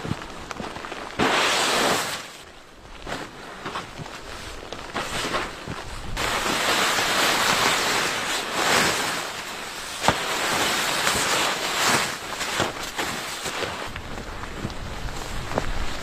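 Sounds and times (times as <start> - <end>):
blizzard wind gusting: 0.0 - 16.0.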